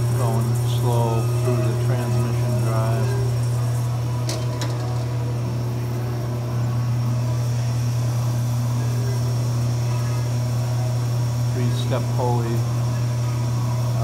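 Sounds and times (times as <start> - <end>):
band saw motor humming: 0.0 - 14.0.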